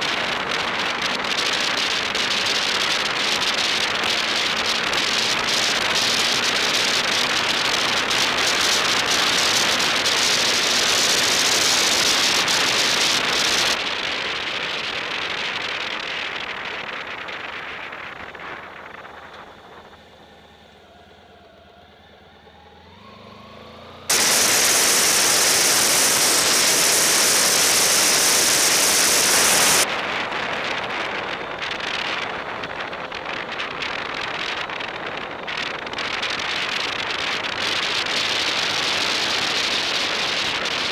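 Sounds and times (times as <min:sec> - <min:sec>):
wind rushing over microphone: 0:00.0 - 0:20.4, 0:24.1 - 0:40.9.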